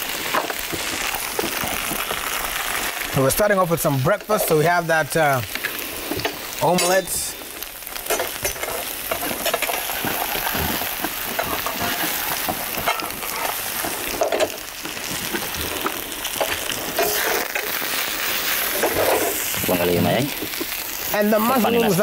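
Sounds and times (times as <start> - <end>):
omelette sizzling in oil: 0.0 - 22.0.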